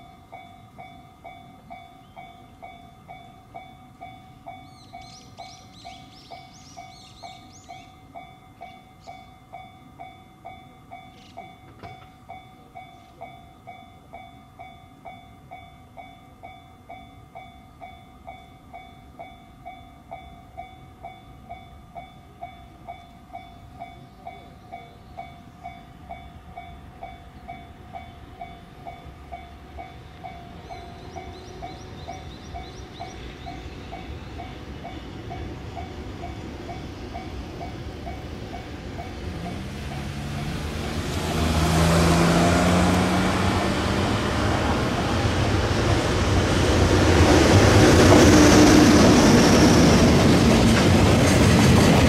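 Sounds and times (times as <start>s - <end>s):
train rumble: 0.0s - 52.0s.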